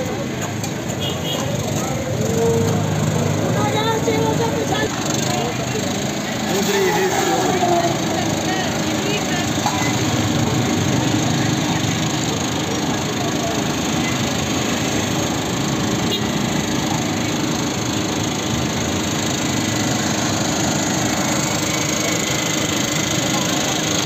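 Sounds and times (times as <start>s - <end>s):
motor running steadily: 0.0s - 24.0s.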